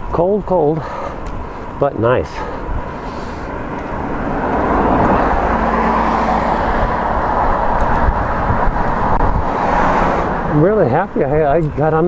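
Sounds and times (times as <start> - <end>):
road noise: 0.0 - 12.0
rushing wind: 0.0 - 12.0.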